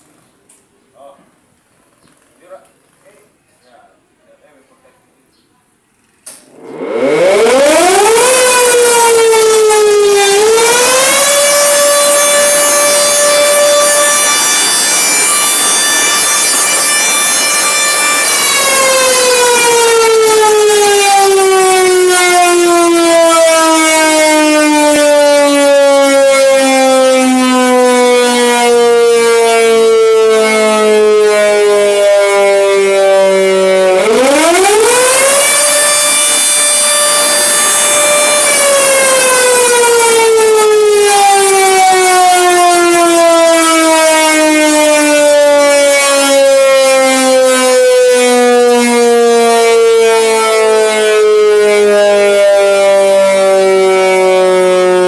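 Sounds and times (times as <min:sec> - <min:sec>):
air raid siren wailing: 0:06.3 - 0:55.0.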